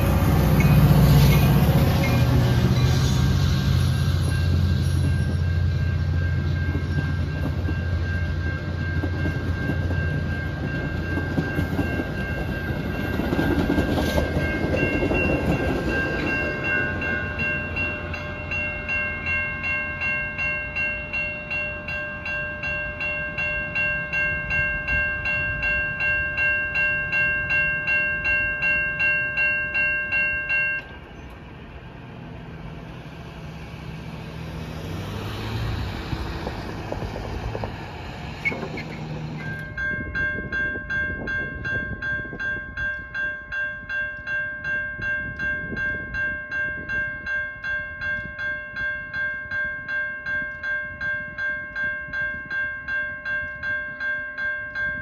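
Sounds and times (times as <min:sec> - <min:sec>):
railroad bell ringing: 0:00.0 - 0:55.0
train rumbling past: 0:00.0 - 0:55.0.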